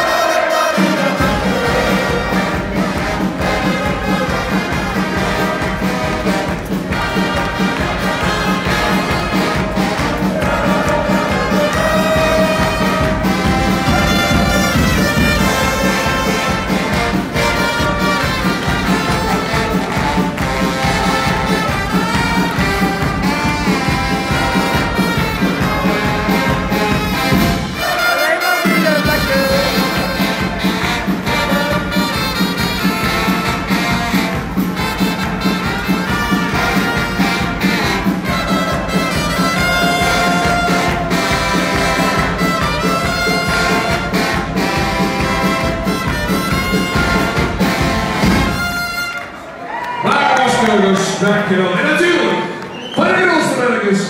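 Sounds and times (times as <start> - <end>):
brass band music: 0.0 - 54.0.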